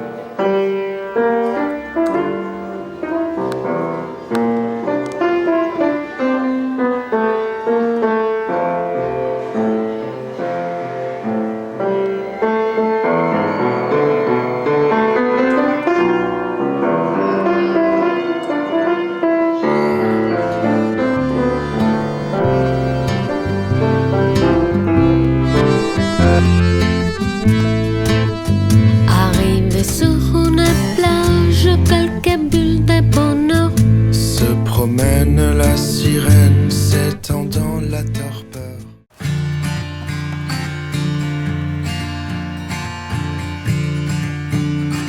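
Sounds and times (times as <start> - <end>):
lively piano music: 0.0 - 38.0.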